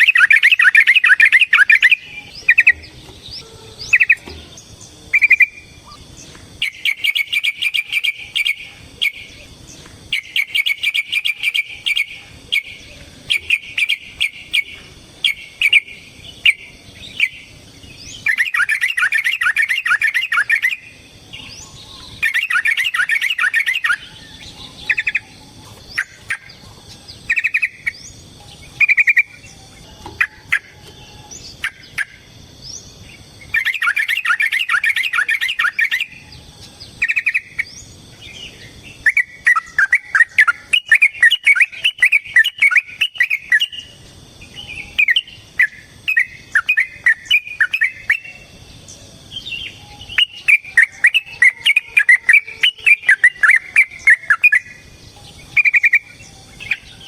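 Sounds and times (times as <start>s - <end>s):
bird song with warbling runs: 0.0s - 57.0s.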